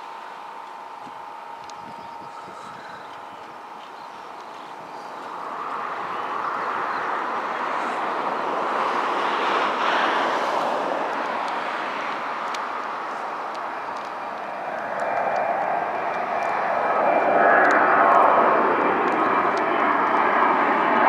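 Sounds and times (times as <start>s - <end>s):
jet engines at take-off: 0.0s - 21.0s.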